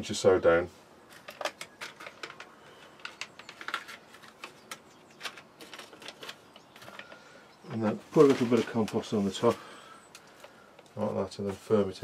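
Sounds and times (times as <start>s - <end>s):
hands rummaging paper packets: 1.1s - 11.8s.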